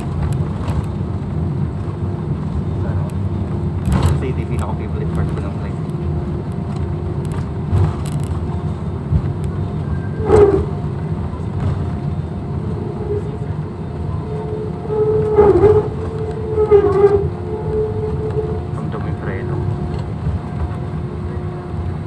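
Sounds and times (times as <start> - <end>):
airliner cabin low rumble: 0.0 - 22.0.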